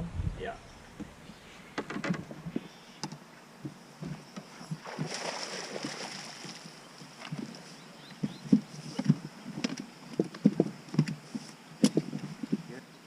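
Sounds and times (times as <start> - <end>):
knocks and clunks in a boat: 1.0 - 12.8.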